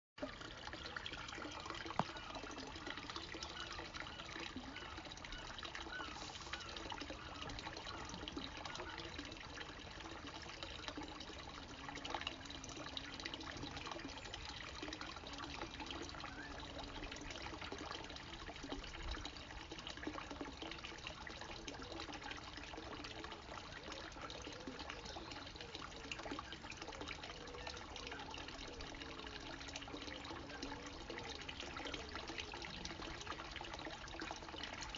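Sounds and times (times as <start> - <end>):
water trickling into pond: 0.2 - 34.9.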